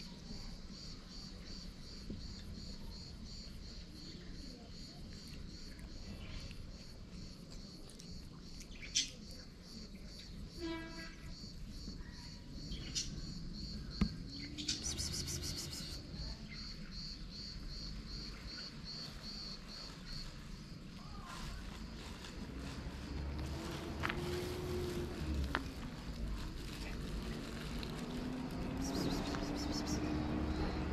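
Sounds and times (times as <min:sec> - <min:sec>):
insect chirping: 0:00.0 - 0:30.9.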